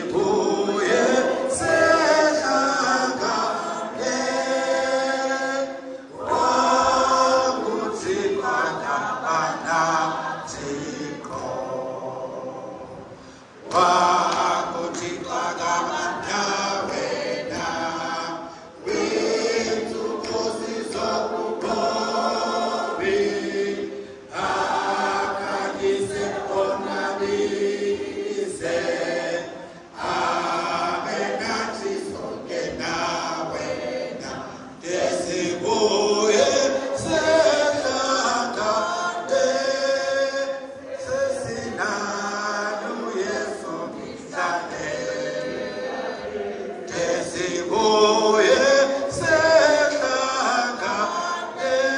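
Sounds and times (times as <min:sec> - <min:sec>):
women singing a hymn: 0:00.0 - 0:51.9.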